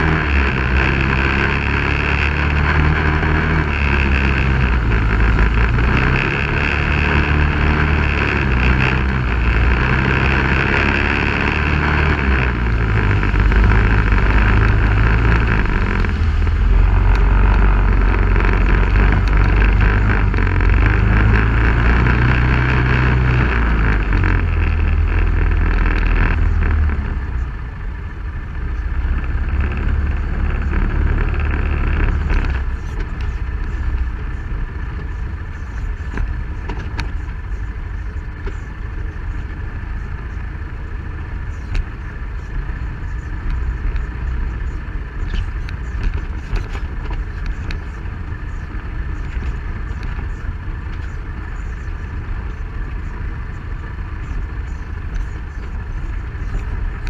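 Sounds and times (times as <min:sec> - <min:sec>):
off-road vehicle engine revving: 0:00.0 - 0:57.0
steady rushing noise: 0:00.0 - 0:57.0.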